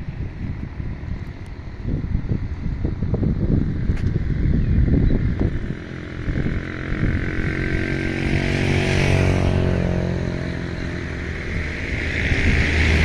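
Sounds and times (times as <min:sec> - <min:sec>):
train locomotive drone: 0:00.0 - 0:13.0.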